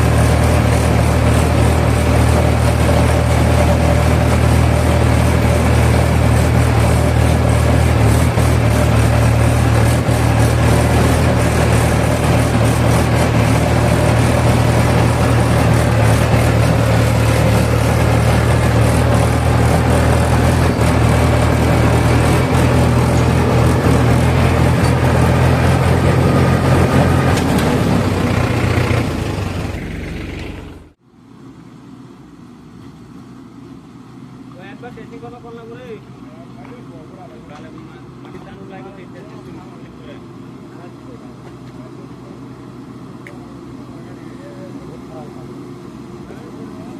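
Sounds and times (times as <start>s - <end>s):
diesel engine running: 0.0s - 32.5s, 33.7s - 46.9s.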